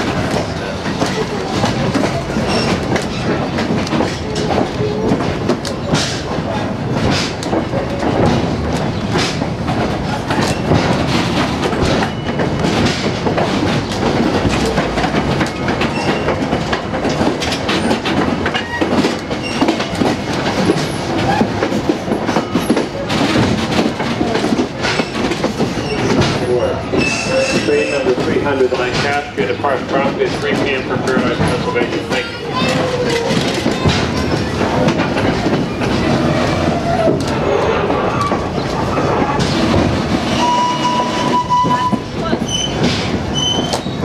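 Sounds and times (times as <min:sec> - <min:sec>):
railroad car rumbling on track: 0:00.0 - 0:44.0
wheels clicking and knocking: 0:00.0 - 0:44.0.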